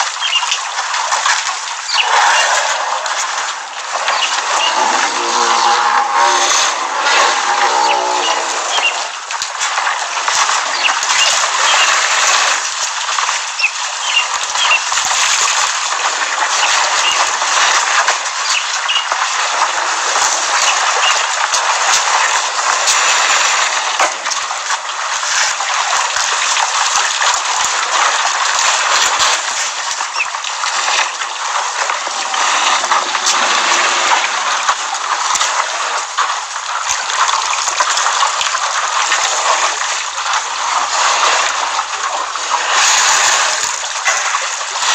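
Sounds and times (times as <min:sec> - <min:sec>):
water drips and clicks: 0:00.0 - 0:04.7, 0:08.7 - 0:44.9
elephants splashing in water: 0:06.4 - 0:44.9.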